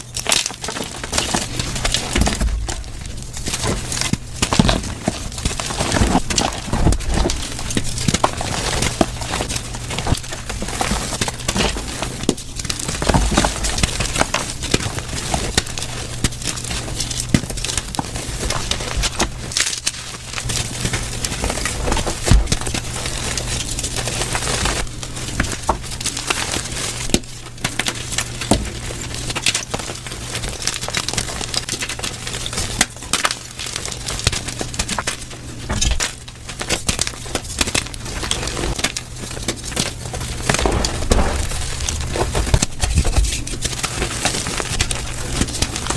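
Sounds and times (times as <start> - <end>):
chalk crunching and crackling: 0.0 - 45.9.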